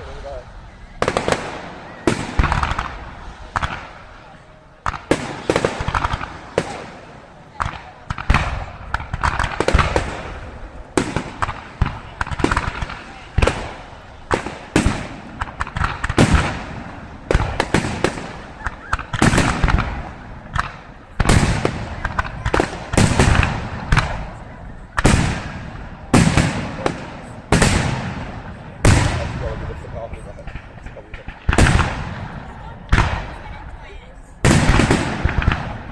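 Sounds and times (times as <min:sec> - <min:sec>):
fireworks crackle: 0:00.0 - 0:35.9.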